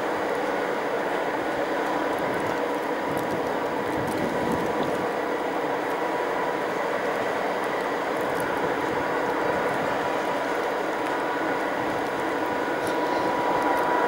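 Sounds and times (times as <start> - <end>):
faint steady whine: 0.0 - 14.0
train mechanical whirring and hiss: 0.0 - 14.0.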